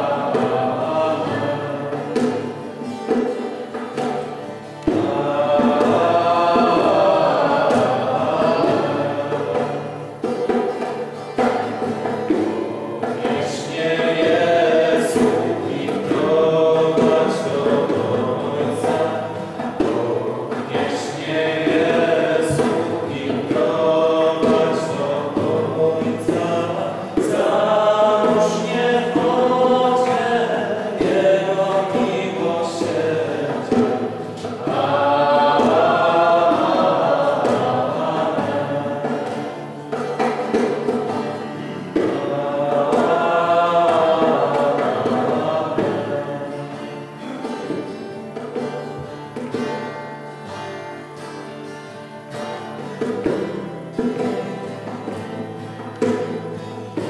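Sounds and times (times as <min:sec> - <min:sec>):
choir singing: 0:00.0 - 0:48.2.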